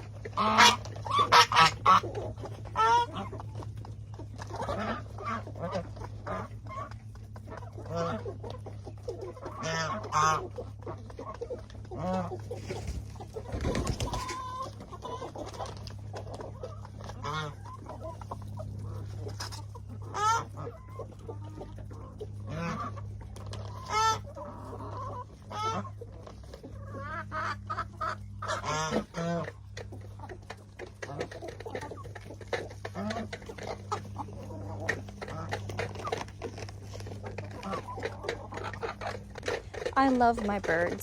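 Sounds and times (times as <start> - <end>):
chicken calls: 0.0 - 41.0
chickens clucking: 0.0 - 41.0
steady low hum: 0.0 - 41.0.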